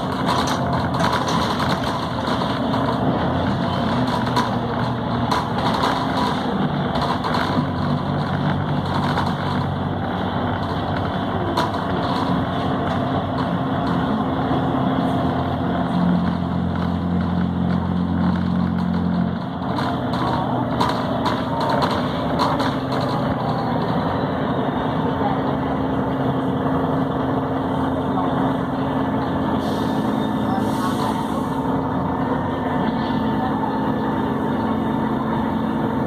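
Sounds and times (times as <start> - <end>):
bus diesel engine running: 0.0 - 36.0.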